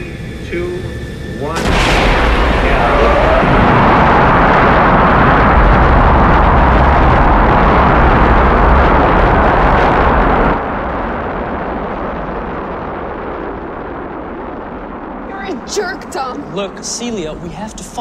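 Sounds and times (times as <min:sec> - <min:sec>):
rocket engines rumbling: 0:00.0 - 0:18.0.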